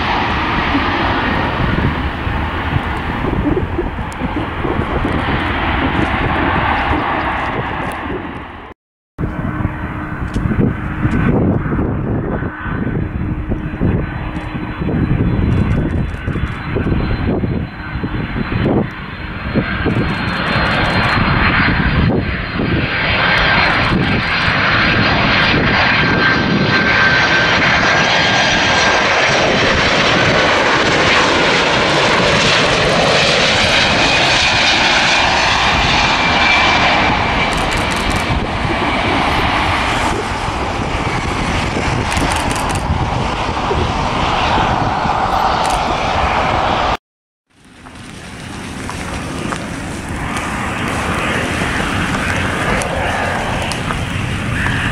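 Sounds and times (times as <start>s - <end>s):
high whistling engine tones: 0.0s - 47.0s, 47.6s - 54.9s
jet airliner passing overhead: 0.0s - 54.9s.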